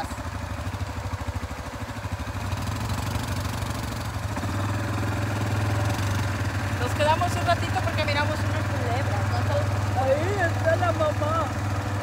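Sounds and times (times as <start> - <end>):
atv engine chugging: 0.0 - 12.0.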